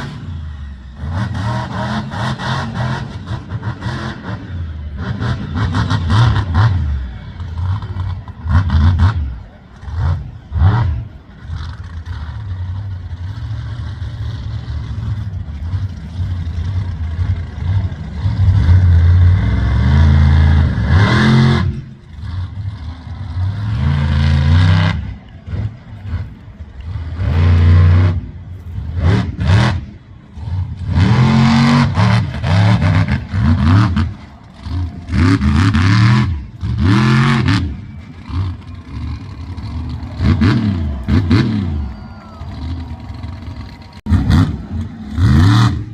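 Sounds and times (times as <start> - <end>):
monster truck engines revving: 0.0 - 45.9.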